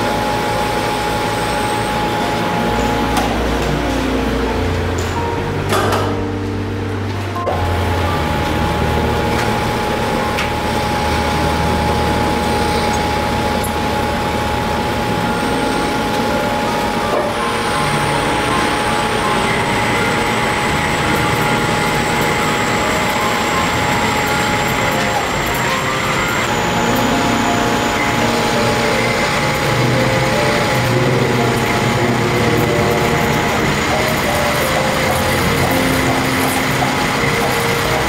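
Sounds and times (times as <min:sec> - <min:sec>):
metal lathe running: 0:00.0 - 0:38.0
thin whine: 0:00.0 - 0:38.0.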